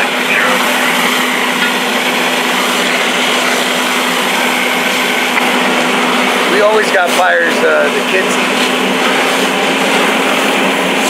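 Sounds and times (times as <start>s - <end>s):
constant low hum: 0.0s - 10.8s
fire hose spraying water: 0.0s - 11.0s.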